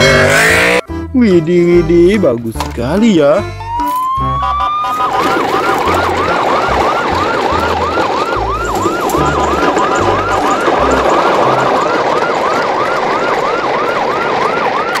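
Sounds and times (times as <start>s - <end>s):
siren wailing: 0.0s - 0.8s, 3.4s - 15.0s.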